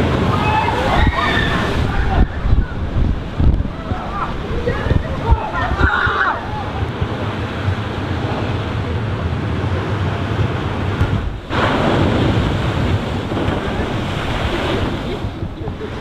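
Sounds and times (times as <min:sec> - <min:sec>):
ocean waves breaking: 0:00.0 - 0:16.0
wind buffeting microphone: 0:00.0 - 0:16.0.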